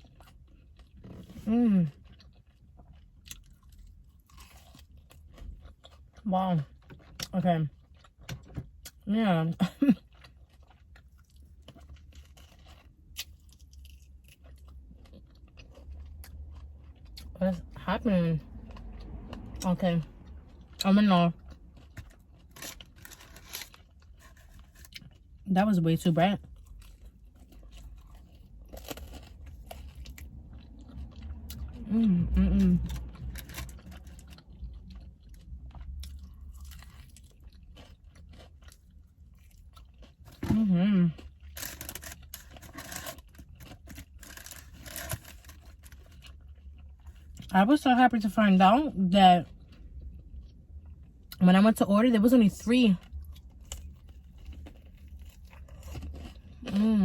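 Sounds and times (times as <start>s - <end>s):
chewing crispy food: 0.0s - 57.0s
low steady rumble: 0.0s - 57.0s.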